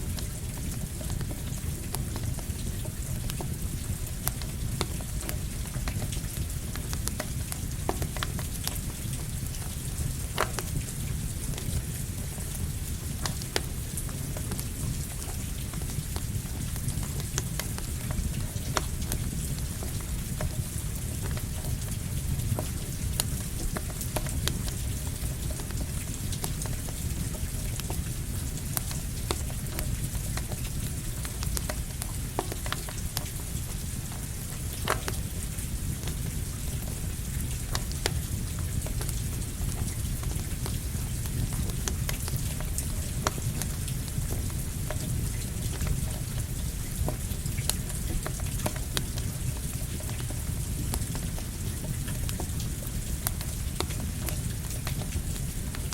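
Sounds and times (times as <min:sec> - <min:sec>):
campfire crackling and popping: 0:00.0 - 0:55.9
steady rain hiss: 0:00.0 - 0:55.9.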